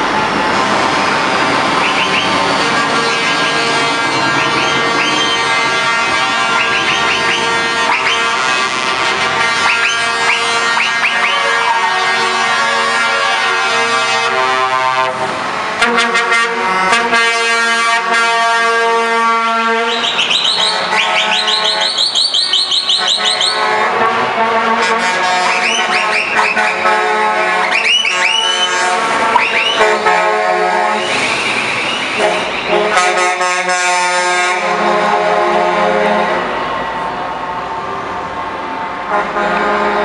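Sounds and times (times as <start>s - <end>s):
trucks driving past: 0.0s - 40.0s
truck air horns: 1.7s - 36.8s, 39.1s - 40.0s.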